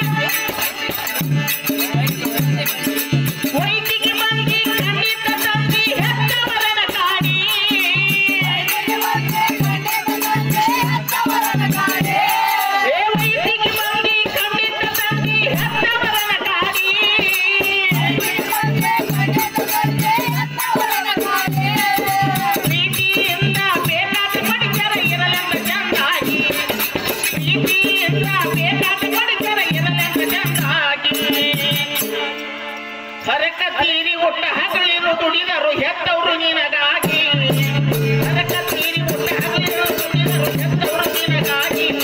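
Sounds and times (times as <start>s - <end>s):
rhythmic shaken percussion: 0.0s - 33.2s, 37.0s - 42.0s.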